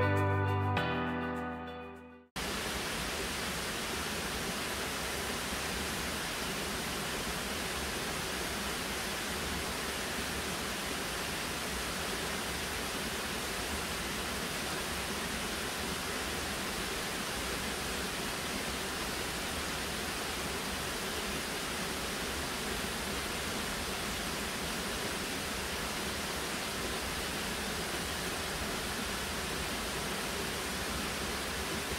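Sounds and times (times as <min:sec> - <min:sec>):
falling water rushing: 0:02.4 - 0:31.9.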